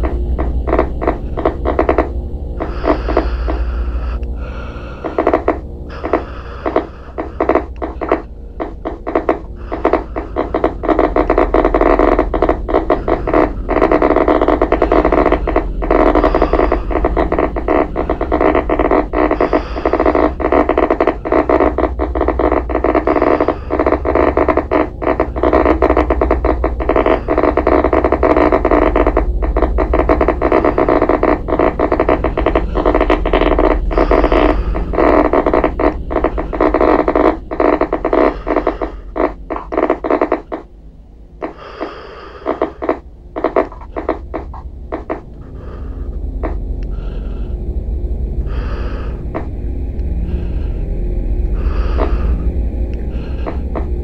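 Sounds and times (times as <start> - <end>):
electronic crackles and clicks: 0.0 - 40.7, 41.3 - 47.5, 51.5 - 54.0
electronic buzzing drone: 0.0 - 54.0
low hum: 0.0 - 54.0.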